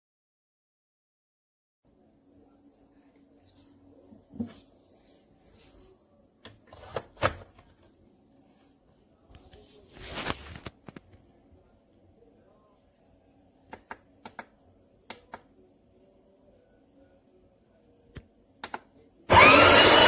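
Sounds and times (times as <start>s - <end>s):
faint low hum: 1.9s - 19.3s.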